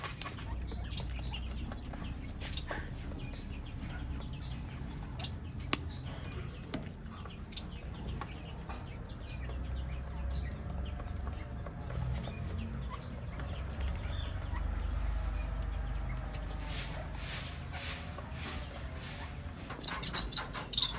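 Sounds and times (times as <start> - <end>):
finches chirping: 0.4 - 20.9.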